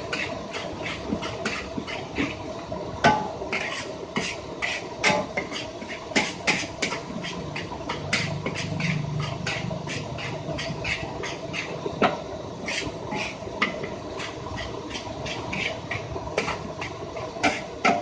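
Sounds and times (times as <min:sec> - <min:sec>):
metal spatula scraping a wok: 0:00.0 - 0:02.5, 0:03.5 - 0:11.8, 0:12.5 - 0:18.0
rice frying: 0:00.0 - 0:18.0.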